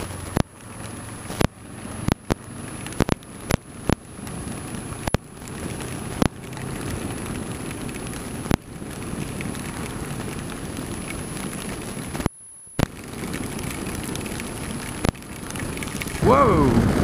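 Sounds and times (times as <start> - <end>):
raindrops tapping camera: 0.0 - 17.0
wind and rain rushing: 0.0 - 17.0.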